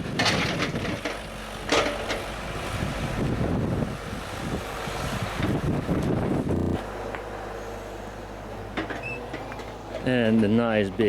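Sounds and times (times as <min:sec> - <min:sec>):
bulldozer diesel engine under load: 0:00.0 - 0:11.0.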